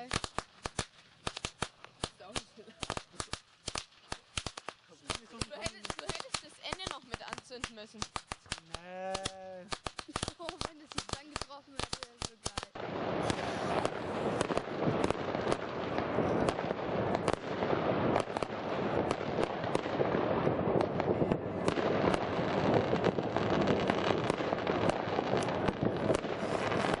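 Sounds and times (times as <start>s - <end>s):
firework bangs: 0.0s - 27.0s
fireworks crackling: 0.0s - 27.0s.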